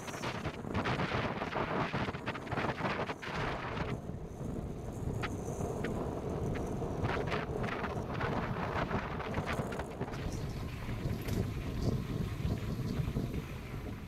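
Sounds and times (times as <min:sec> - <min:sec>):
tyre and wind road rumble: 0:00.0 - 0:14.0
wind buffeting microphone: 0:00.0 - 0:14.0.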